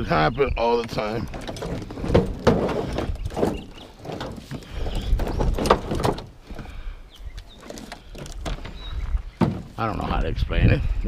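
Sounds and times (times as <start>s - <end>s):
irregular knocks and clatter: 0.7s - 10.3s.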